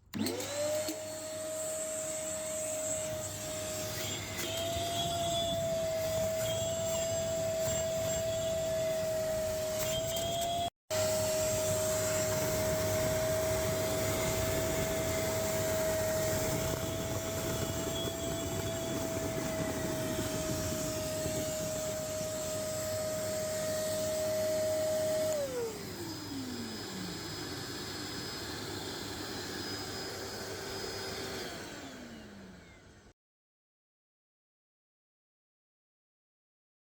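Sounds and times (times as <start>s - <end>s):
vacuum motor high whine: 0.0s - 33.1s
lower motor whine: 0.1s - 33.1s.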